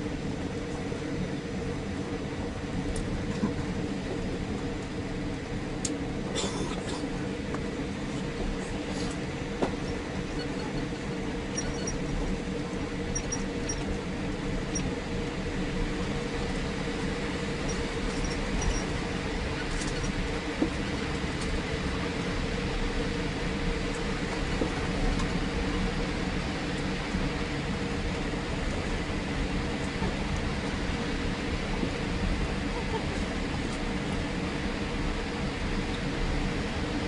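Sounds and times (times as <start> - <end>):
aircraft engines humming: 0.0 - 37.0.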